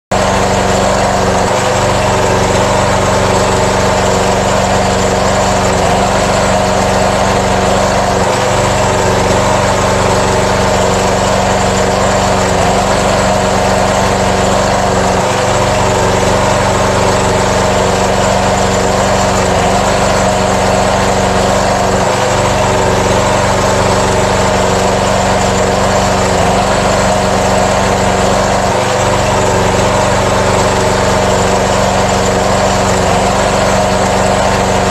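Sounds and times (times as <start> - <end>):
diesel generator running: 0.1 - 34.9.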